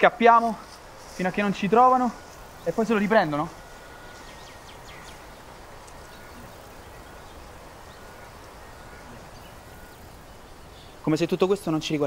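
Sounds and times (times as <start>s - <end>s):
outdoor background ambience: 0.0s - 12.0s
faint bird chirps: 0.8s - 11.2s.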